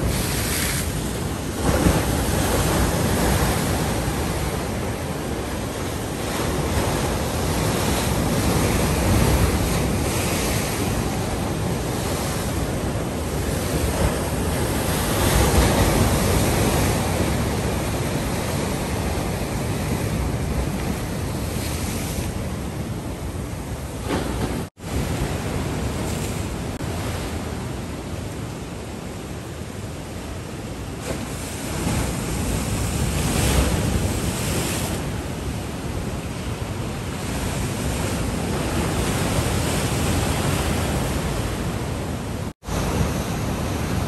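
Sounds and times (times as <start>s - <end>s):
waves breaking against seawall: 0.0s - 22.4s, 30.9s - 44.0s.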